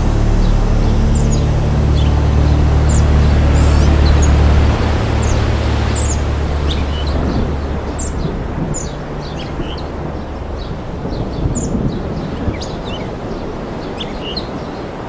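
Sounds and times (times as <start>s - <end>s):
birds chirping: 0.0s - 15.0s
low hum: 0.0s - 15.0s.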